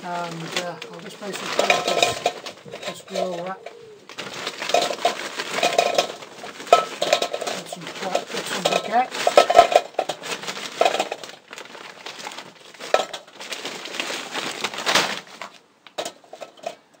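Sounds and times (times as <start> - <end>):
charcoal clattering into metal bowl: 0.0 - 17.0.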